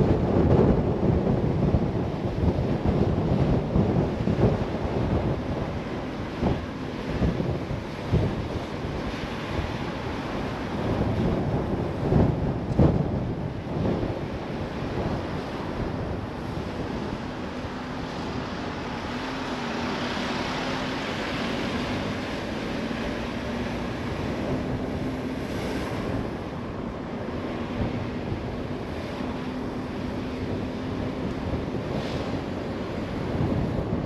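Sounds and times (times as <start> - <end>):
road and wind noise: 0.0 - 34.0.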